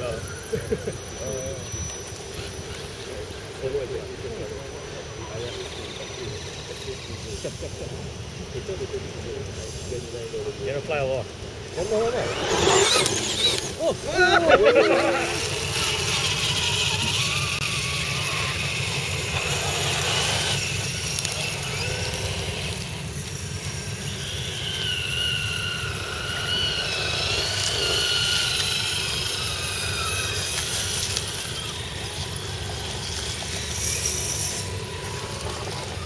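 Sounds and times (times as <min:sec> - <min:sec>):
electric motor whine: 0:00.0 - 0:09.4, 0:10.2 - 0:36.0.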